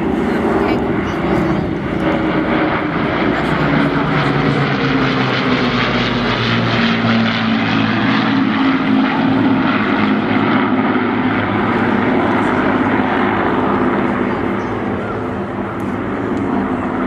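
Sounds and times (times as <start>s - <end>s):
aircraft piston engines droning: 0.0s - 17.0s.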